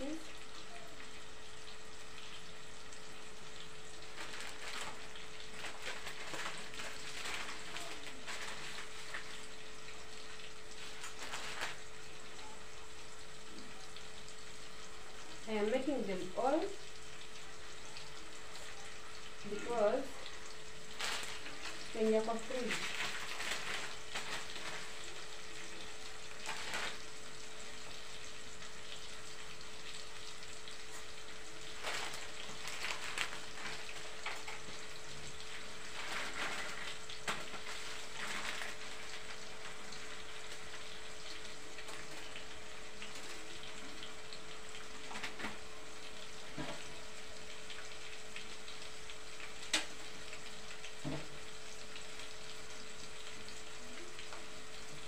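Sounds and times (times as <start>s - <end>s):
food frying hiss: 0.0s - 55.0s.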